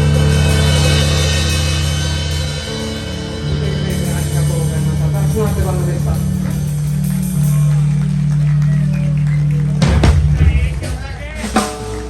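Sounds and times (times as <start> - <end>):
live rock band music: 0.0 - 12.0
voices: 0.0 - 12.0.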